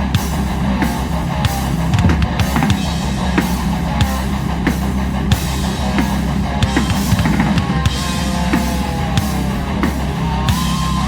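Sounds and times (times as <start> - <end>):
dense steady guitar: 0.0 - 11.0.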